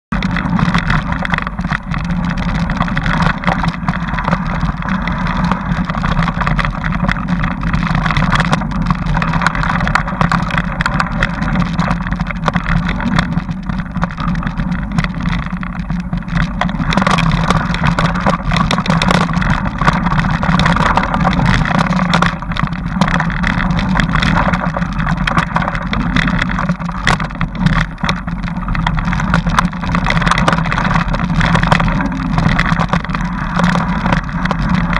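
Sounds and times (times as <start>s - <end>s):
bike riding on dirt trail: 0.1s - 34.9s.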